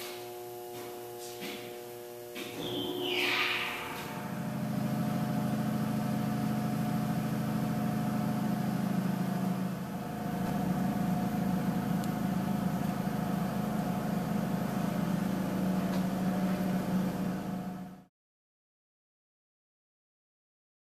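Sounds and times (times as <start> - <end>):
hydraulic pump motor humming: 0.0 - 18.1.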